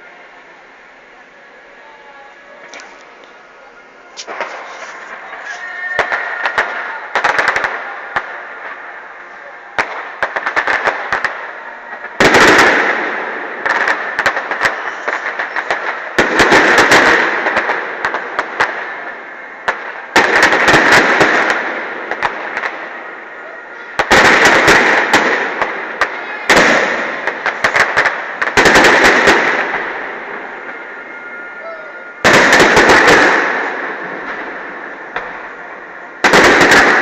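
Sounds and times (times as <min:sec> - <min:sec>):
fireworks bangs and crackles: 0:02.6 - 0:37.0.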